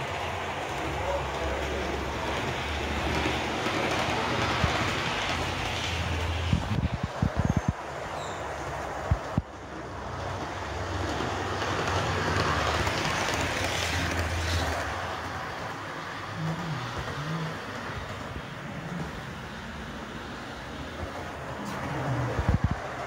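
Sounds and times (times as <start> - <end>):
model train humming on track: 0.0 - 23.0.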